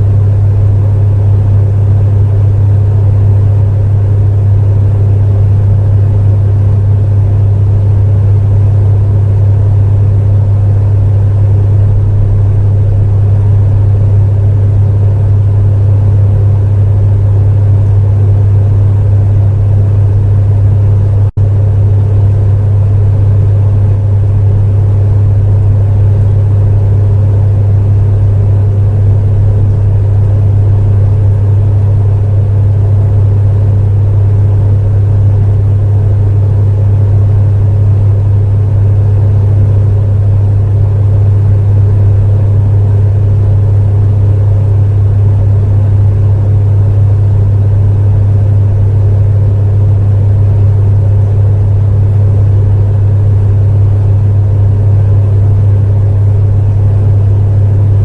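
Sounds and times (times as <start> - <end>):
electric heater fan whir: 0.0 - 58.0.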